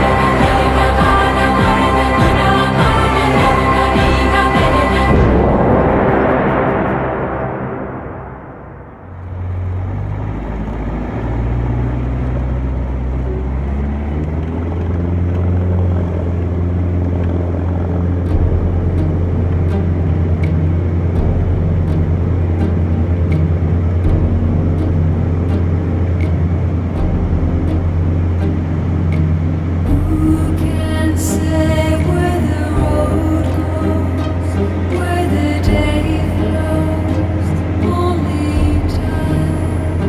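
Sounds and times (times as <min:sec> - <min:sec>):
propeller plane engine droning: 0:00.0 - 0:40.0.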